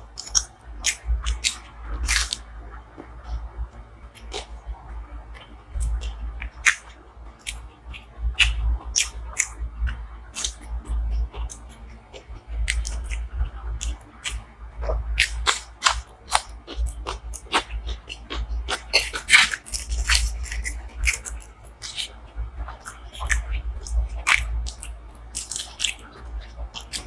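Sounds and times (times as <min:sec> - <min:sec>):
person chewing food: 0:00.0 - 0:02.4, 0:04.1 - 0:04.6, 0:05.3 - 0:27.0
low steady hum: 0:00.0 - 0:27.0.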